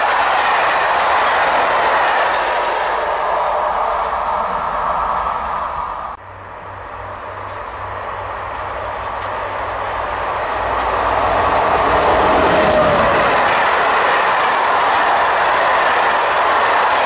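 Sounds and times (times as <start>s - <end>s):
train passing at speed: 0.0s - 17.0s
train wheel noise: 0.0s - 17.0s.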